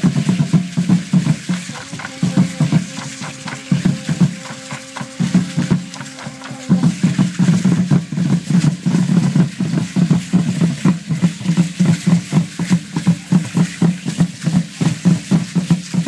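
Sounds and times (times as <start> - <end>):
drums beating fast rhythm: 0.0 - 16.0.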